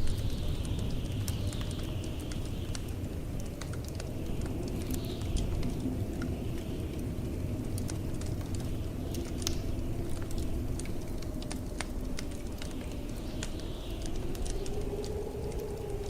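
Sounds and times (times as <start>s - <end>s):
blizzard wind howling: 0.0s - 16.0s
fireplace crackling and popping: 0.0s - 16.0s.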